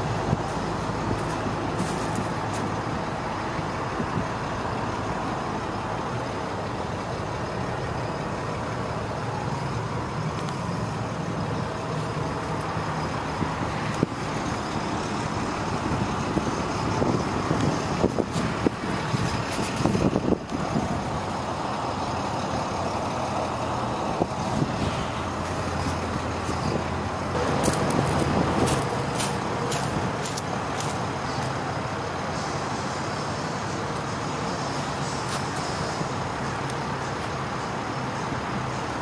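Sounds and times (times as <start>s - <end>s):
loader engine idling: 0.0s - 39.0s.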